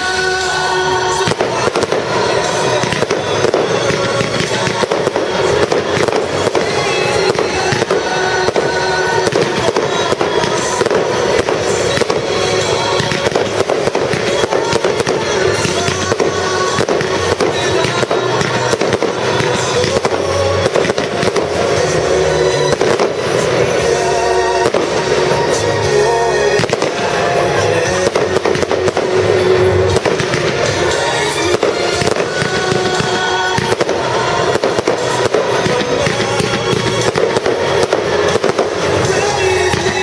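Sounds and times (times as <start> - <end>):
fireworks bursting: 0.0 - 40.0
music playing: 0.0 - 40.0.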